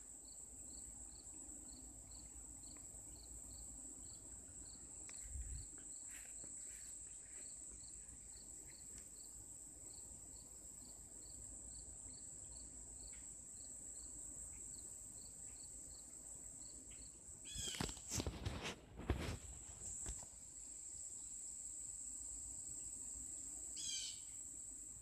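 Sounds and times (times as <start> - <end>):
cricket chirping: 0.0 - 25.0
insects trilling: 0.0 - 25.0
sharp insect sounds: 0.0 - 25.0.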